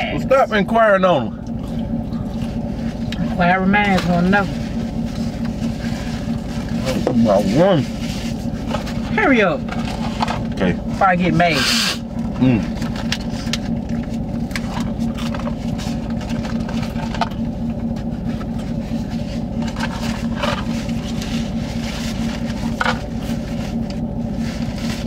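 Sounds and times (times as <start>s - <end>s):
engine idling in cab: 0.0s - 25.0s.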